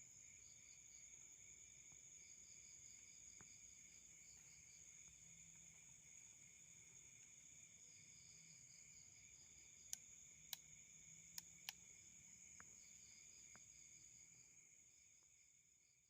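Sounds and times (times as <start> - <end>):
crickets and insects trilling: 0.0 - 15.8.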